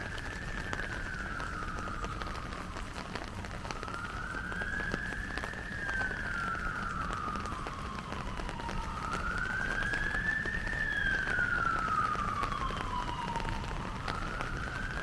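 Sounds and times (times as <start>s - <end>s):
emergency siren wailing: 0.0s - 15.0s
steady rain: 0.0s - 15.0s.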